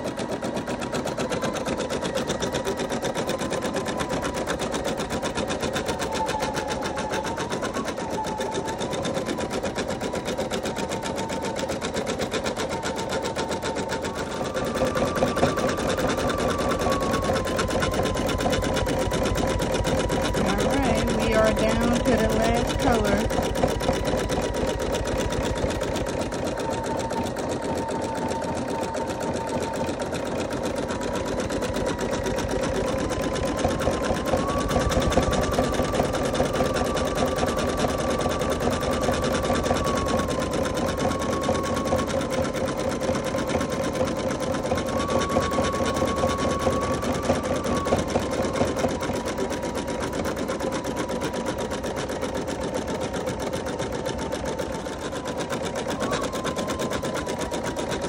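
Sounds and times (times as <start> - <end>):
embroidery machine needle stitching: 0.0 - 58.0
steady motor hum: 0.0 - 58.0.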